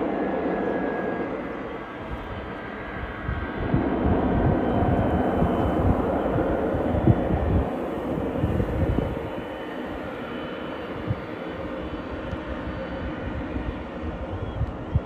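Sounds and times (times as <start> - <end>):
distant jet engines rumbling: 0.0 - 15.0
wind buffeting microphone: 1.3 - 15.0.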